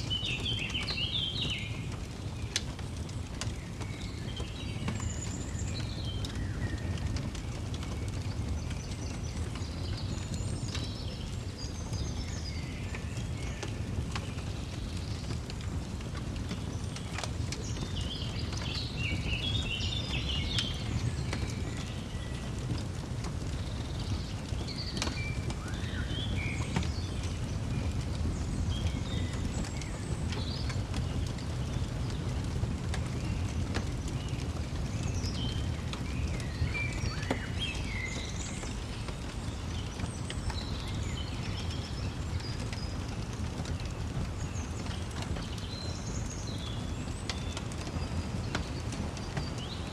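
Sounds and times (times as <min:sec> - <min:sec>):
wood fire crackling: 0:00.0 - 0:49.9
birds chirping: 0:08.2 - 0:49.9.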